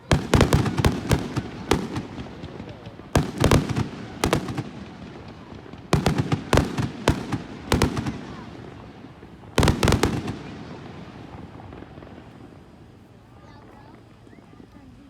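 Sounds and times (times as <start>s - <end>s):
fireworks banging: 0.0s - 14.6s.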